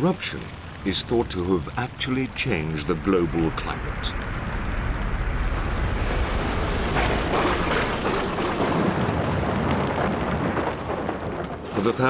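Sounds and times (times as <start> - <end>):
deep rumble of volcanic eruption: 0.0 - 12.0.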